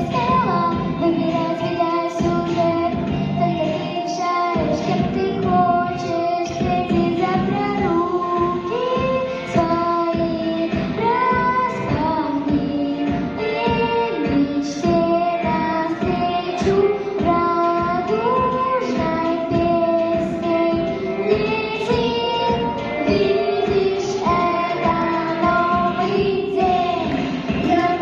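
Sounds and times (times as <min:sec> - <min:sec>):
backing track with steady beat: 0:00.0 - 0:28.0
young woman singing: 0:00.0 - 0:28.0.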